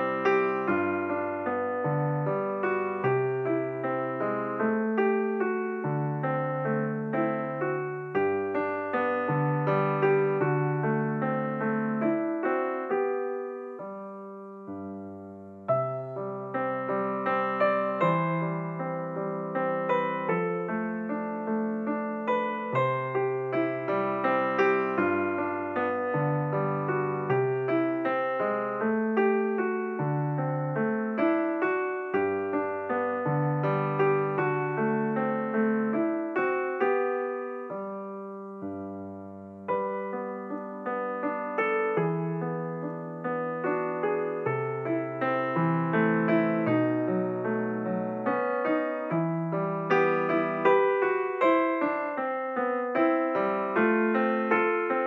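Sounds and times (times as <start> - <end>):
gentle solo piano: 0.0 - 55.0.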